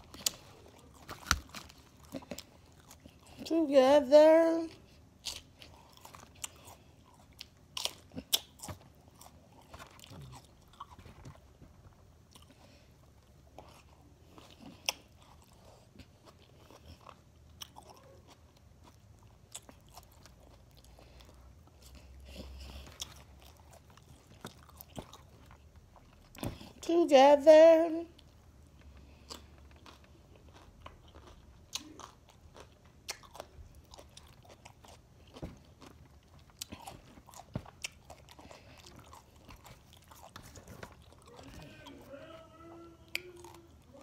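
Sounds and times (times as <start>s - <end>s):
person chewing crunchy salad: 0.0s - 3.4s, 4.7s - 26.8s, 28.2s - 44.0s.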